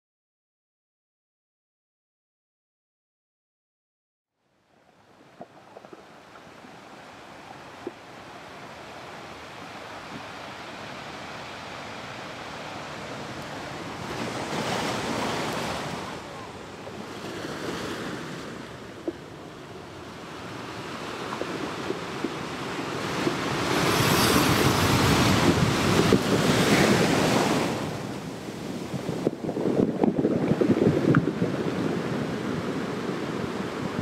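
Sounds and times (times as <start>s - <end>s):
ocean waves washing ashore: 4.8s - 34.0s.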